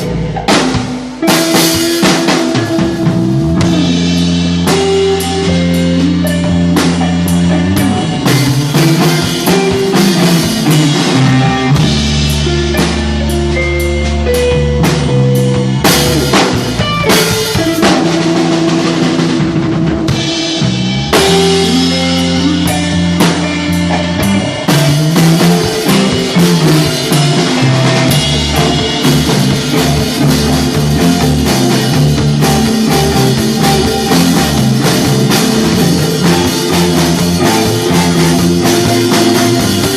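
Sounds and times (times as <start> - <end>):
drum kit hits: 0.0 - 39.9
rock band playing live: 0.0 - 39.9.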